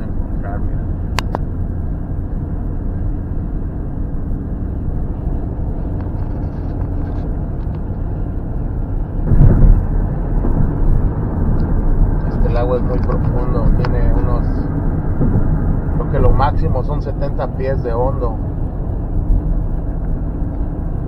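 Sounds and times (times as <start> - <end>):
car cabin road rumble: 0.0 - 21.0.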